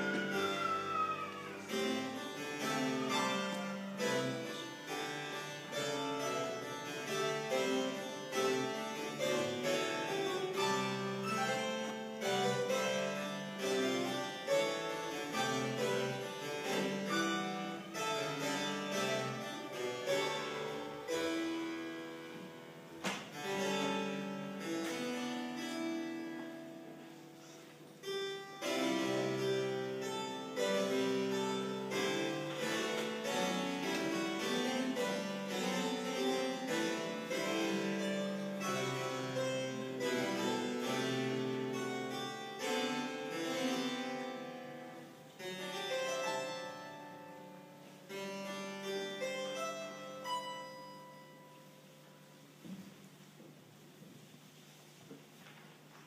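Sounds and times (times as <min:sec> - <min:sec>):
solo harpsichord playing: 0:00.0 - 0:52.6.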